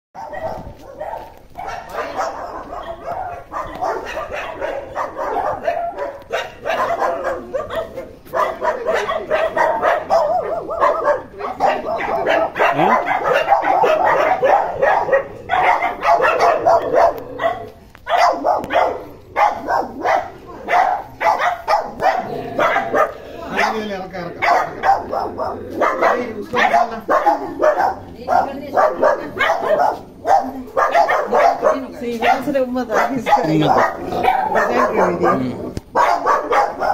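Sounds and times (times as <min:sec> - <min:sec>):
dog barking rapidly: 0:00.2 - 0:36.9.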